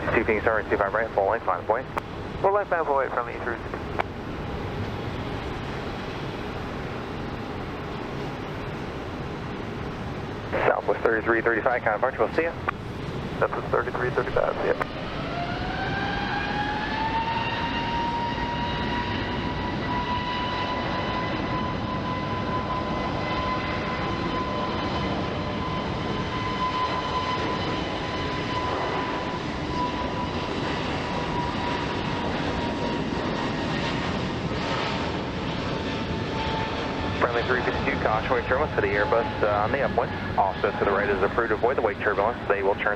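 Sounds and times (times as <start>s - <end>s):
jet engines on takeoff: 0.0s - 42.9s.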